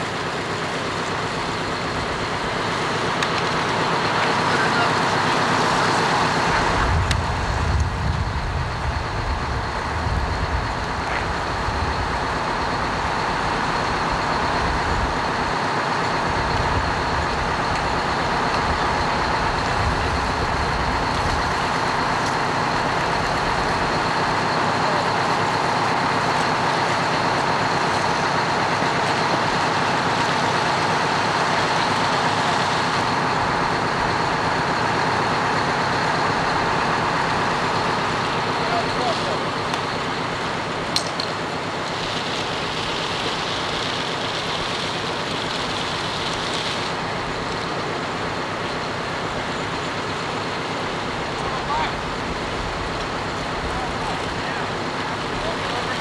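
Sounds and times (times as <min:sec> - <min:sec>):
fire truck engines rumbling: 0:00.0 - 0:56.0.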